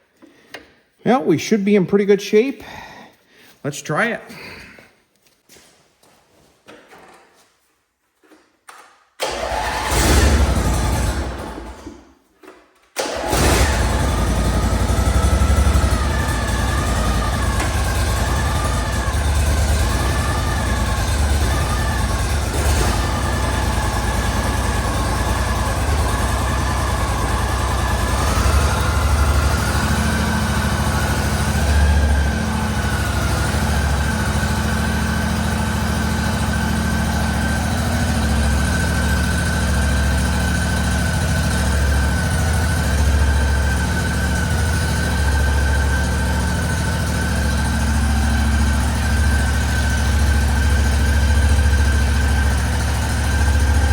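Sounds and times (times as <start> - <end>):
garden tractor engine running: 9.2 - 11.8, 13.0 - 53.9.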